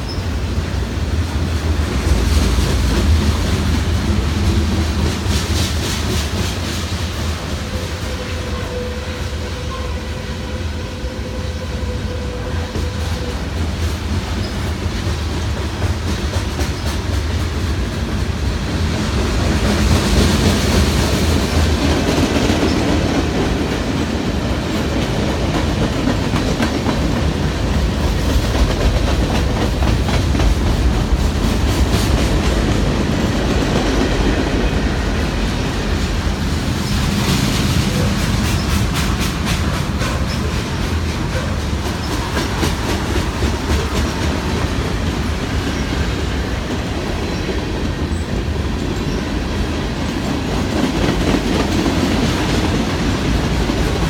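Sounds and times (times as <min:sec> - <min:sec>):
train wheels clacking over rail joints: 0:00.0 - 0:08.4, 0:12.6 - 0:54.0.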